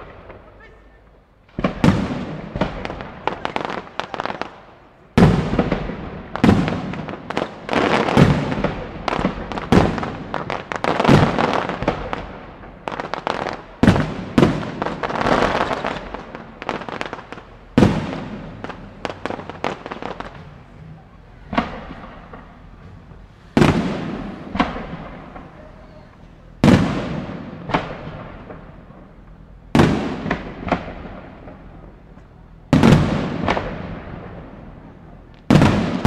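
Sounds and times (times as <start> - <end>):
firework shells booming: 0.0 - 36.0
fireworks crackling: 0.0 - 36.0.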